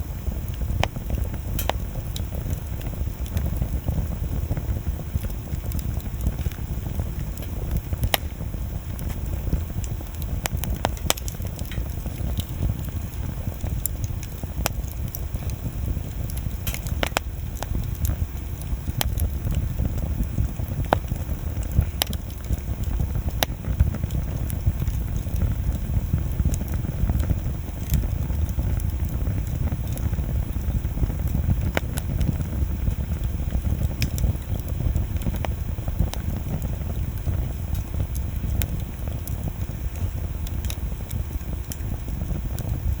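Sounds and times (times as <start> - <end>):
bonfire rumbling: 0.0 - 43.0
wood popping and crackling: 0.0 - 43.0.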